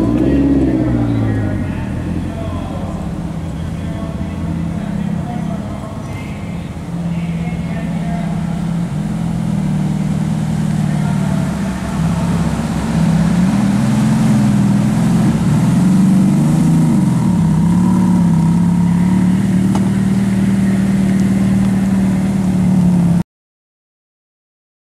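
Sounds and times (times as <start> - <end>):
car engine idling: 0.0 - 23.2.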